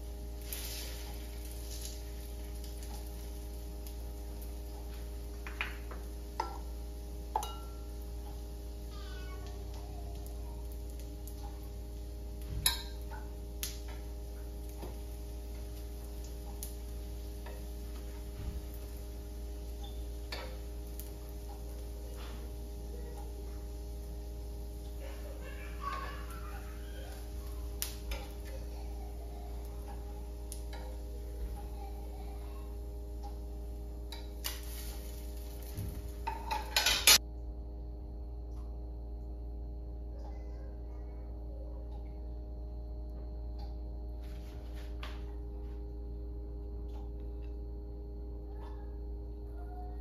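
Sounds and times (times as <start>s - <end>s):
mechanical hum: 0.0s - 50.0s.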